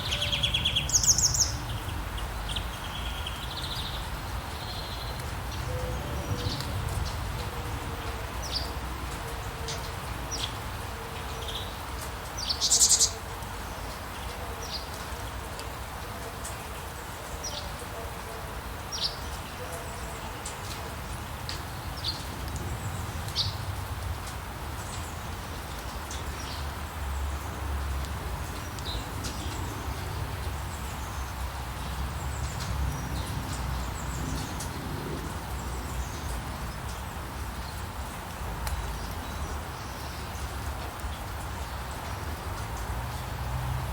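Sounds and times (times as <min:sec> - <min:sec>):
rain hiss: 0:00.0 - 0:43.9
songbirds chirping: 0:00.0 - 0:43.9.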